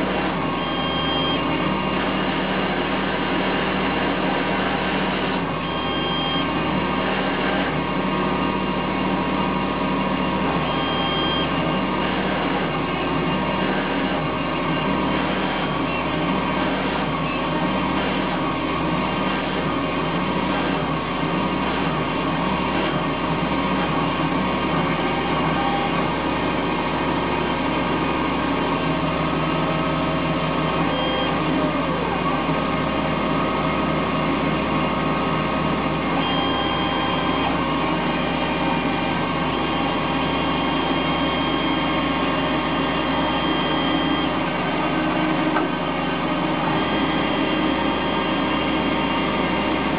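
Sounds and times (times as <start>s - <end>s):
lathe motors whining: 0.0s - 49.9s.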